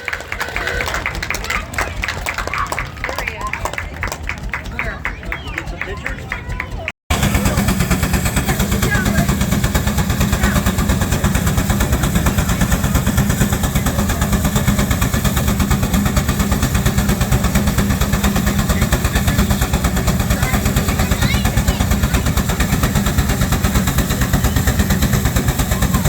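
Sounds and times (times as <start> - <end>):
steam engine exhaust chuffing: 0.0 - 26.0.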